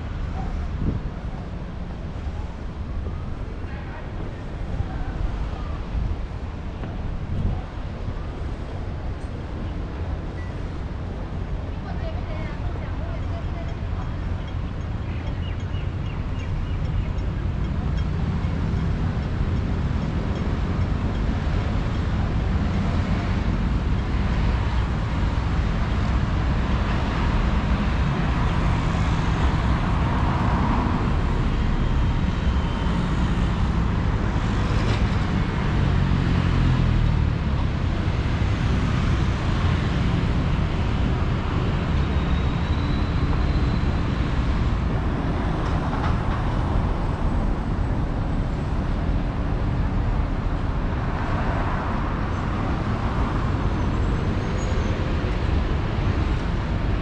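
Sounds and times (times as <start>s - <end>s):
cars passing on road: 0.0s - 57.0s.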